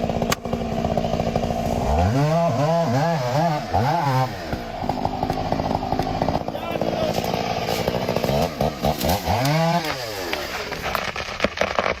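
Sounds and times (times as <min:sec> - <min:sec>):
chainsaw idling and revving: 0:00.0 - 0:12.0.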